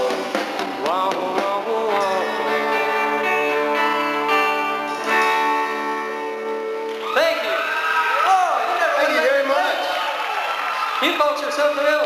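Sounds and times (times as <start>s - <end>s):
country-rock band playing: 0.0s - 12.0s.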